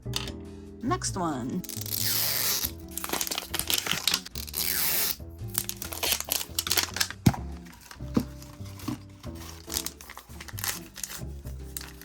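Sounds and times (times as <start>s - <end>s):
background music: 0.0s - 12.0s
plastic wrapping crinkling and tearing: 1.6s - 12.0s.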